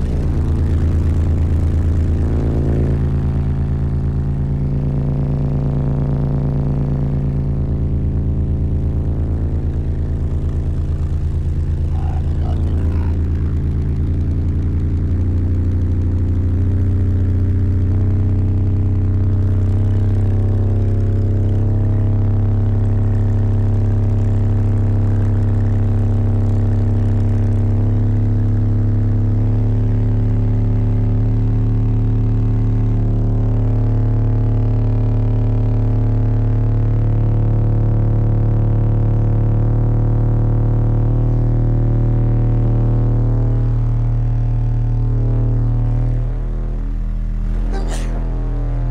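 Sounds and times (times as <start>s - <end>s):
low bass test tones: 0.0s - 48.9s.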